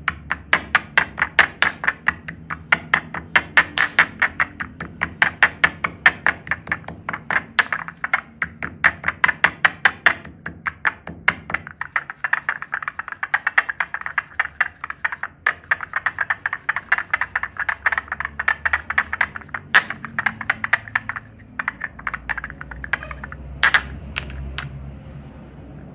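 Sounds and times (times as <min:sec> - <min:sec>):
pestle grinding in stone mortar: 0:00.0 - 0:24.7
stone clacking on stone: 0:00.0 - 0:24.8.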